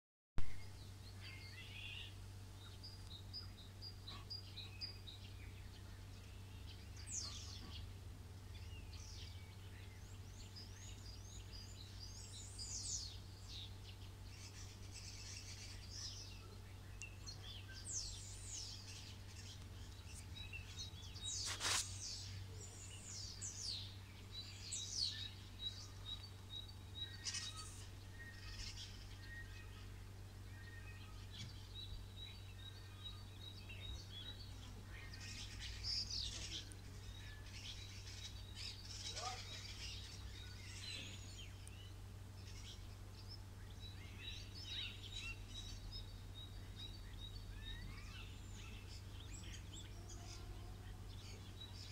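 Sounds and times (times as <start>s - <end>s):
songbirds chirping: 0.4s - 51.9s
steady low hum: 0.5s - 51.9s.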